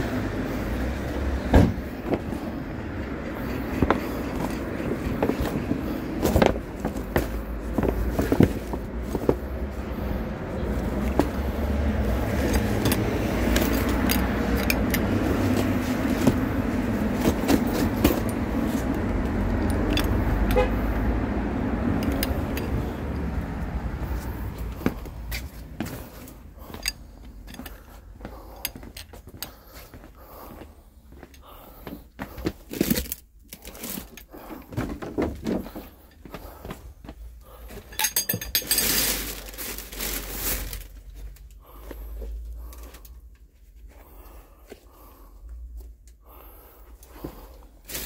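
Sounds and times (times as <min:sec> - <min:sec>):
vehicle engine rumble: 0:00.0 - 0:48.0.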